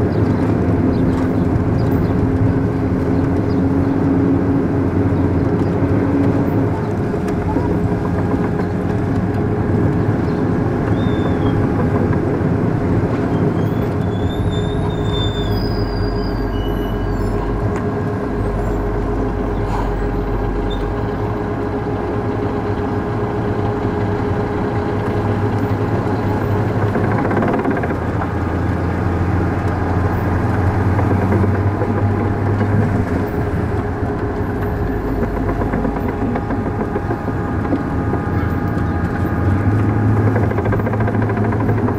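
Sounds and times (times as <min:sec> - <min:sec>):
constant whine: 0:00.0 - 0:41.9
road noise: 0:00.0 - 0:41.9
vehicle engine drone: 0:00.0 - 0:41.9.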